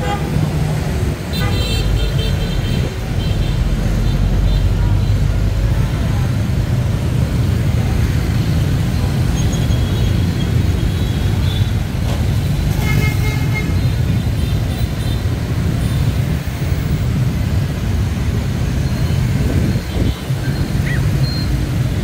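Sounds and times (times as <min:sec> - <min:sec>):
road traffic rumbling: 0:00.0 - 0:22.0.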